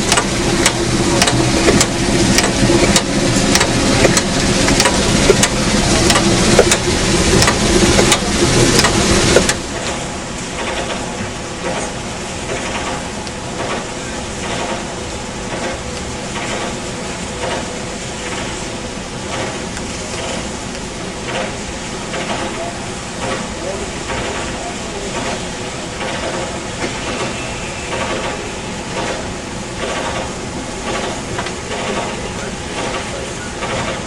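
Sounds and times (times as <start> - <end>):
train rumble: 0.0 - 34.0
train running with sharp clacks: 0.0 - 34.0.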